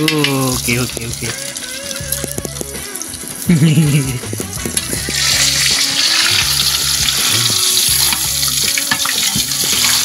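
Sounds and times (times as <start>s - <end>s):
hot oil sizzling in a wok: 0.0s - 10.0s.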